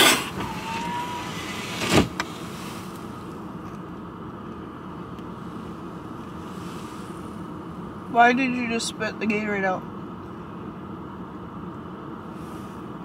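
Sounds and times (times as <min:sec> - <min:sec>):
car running with heater on: 0:00.0 - 0:13.0.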